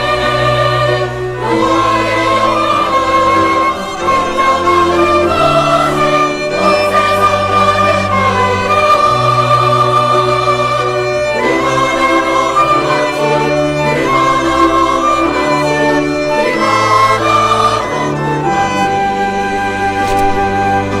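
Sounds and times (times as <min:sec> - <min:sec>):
bowed strings playing chords: 0:00.0 - 0:21.0
choir singing: 0:00.0 - 0:21.0.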